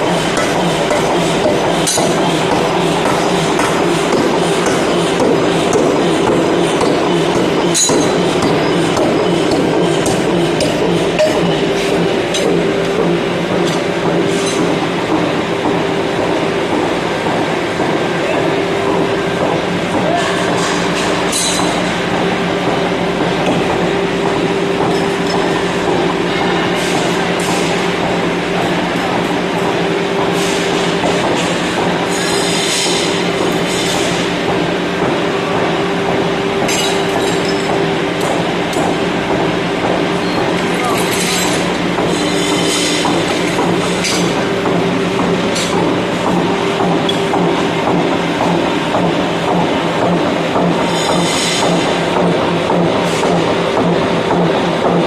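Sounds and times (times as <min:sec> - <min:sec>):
power hammer machine hum: 0:00.0 - 0:55.0.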